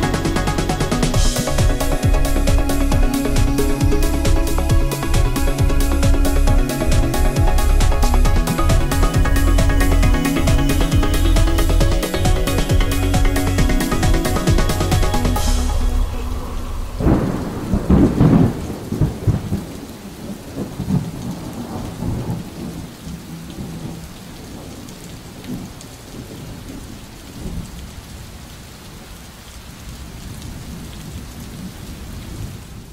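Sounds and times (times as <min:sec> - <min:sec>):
thunder rumbling: 0:00.0 - 0:27.8
steady rain: 0:00.0 - 0:32.9.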